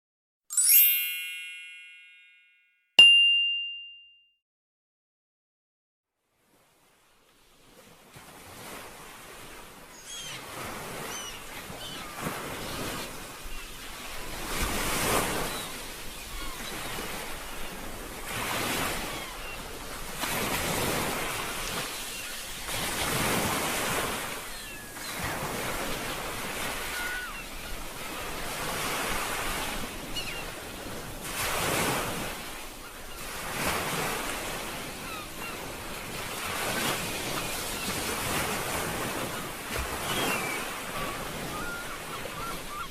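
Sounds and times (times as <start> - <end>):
ocean waves washing onto shore: 6.4 - 42.9.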